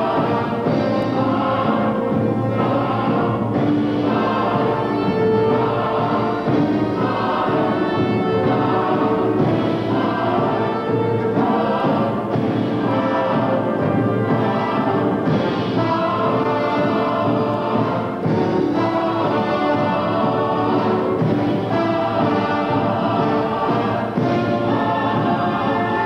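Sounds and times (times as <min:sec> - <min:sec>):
choir singing sustained notes: 0:00.0 - 0:26.0
orchestral music: 0:00.0 - 0:26.0.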